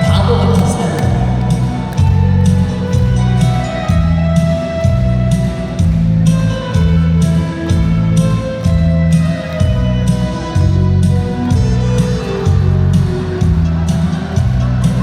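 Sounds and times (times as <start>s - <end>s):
instrumental backing music: 0.0s - 15.0s.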